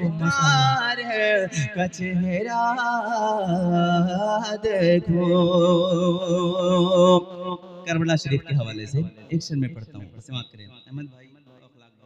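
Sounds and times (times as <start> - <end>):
man singing devotional song: 0.0 - 11.1.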